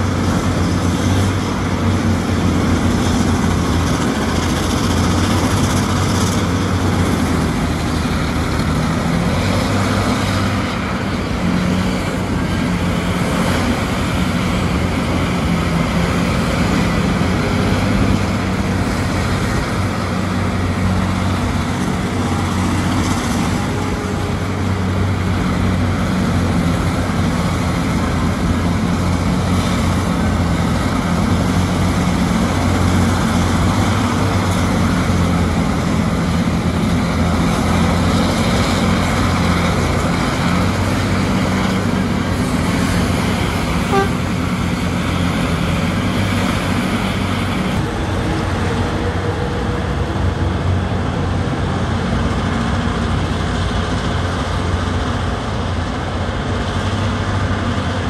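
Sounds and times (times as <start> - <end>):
mining shovel engine drone: 0.0 - 58.0.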